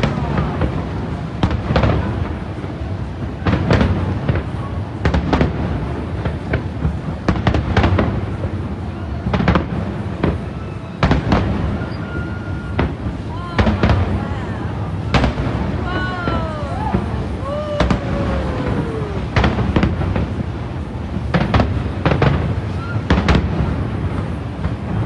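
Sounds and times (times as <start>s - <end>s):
continuous low rumble: 0.0s - 25.0s
fireworks bangs and cracks: 0.0s - 25.0s.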